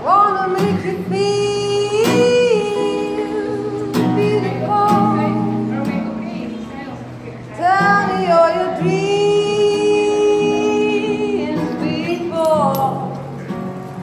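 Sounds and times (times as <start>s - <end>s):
woman singing: 0.0s - 6.6s, 7.5s - 13.3s
acoustic guitar: 0.0s - 14.0s.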